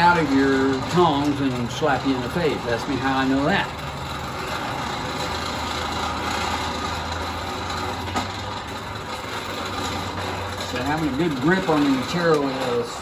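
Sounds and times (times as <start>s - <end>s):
forge air blower humming: 0.0s - 13.0s.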